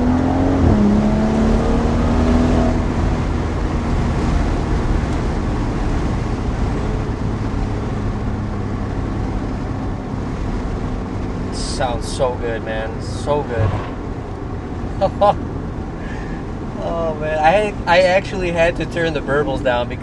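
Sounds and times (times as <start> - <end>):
car engine exhaust note: 0.0 - 17.9
road and wind noise: 0.0 - 20.0.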